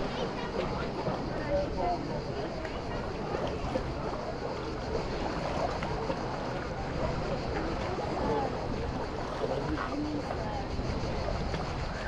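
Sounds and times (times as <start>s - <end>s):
faint voices: 0.0s - 12.0s
small waves: 0.0s - 12.0s
wind: 0.0s - 12.0s.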